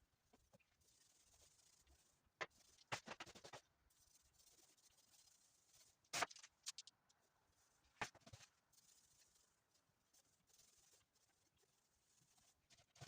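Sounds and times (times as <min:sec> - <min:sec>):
faint scratching: 0:00.0 - 0:13.0.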